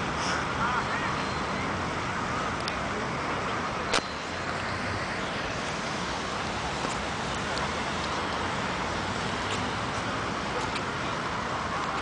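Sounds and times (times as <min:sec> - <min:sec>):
beach ambience wash: 0:00.0 - 0:12.0.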